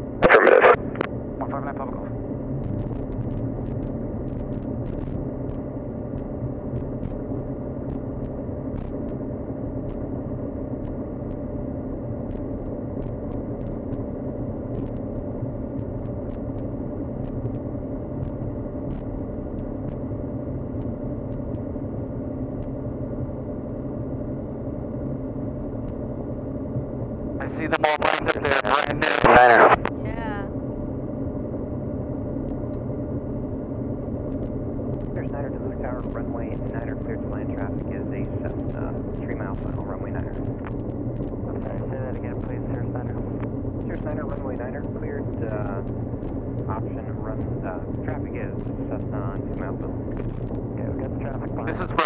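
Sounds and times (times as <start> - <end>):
airplane engine droning in cabin: 0.0 - 52.0.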